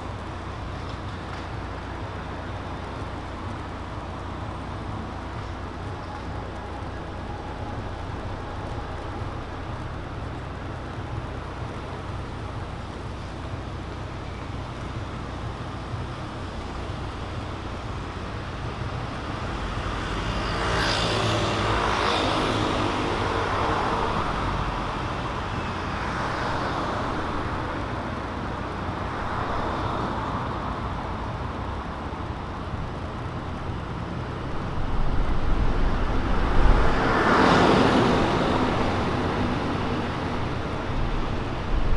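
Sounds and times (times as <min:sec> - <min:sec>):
cars passing: 0:00.0 - 0:41.9
low traffic hum: 0:00.0 - 0:41.9.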